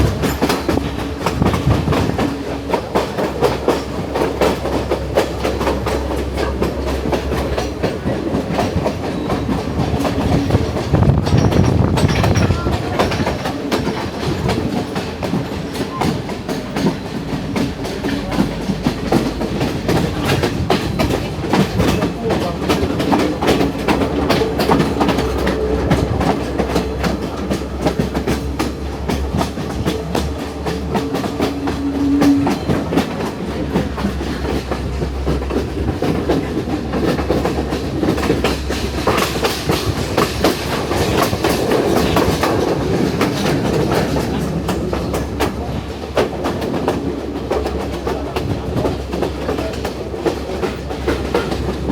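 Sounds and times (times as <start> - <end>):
train rumble: 0.0 - 51.9
wheels clattering over rail joints: 0.0 - 51.9.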